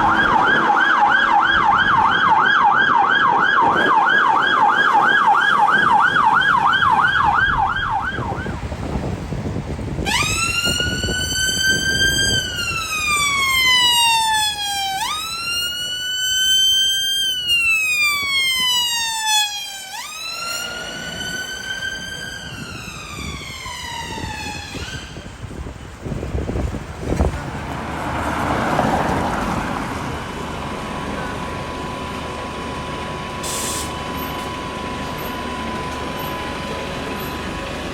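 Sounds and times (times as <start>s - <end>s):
siren yelp: 0.0s - 8.7s, 10.0s - 25.3s, 30.1s - 37.9s
siren slow wail: 0.0s - 9.1s, 10.0s - 25.6s, 28.4s - 37.9s
road and engine noise: 0.0s - 37.9s.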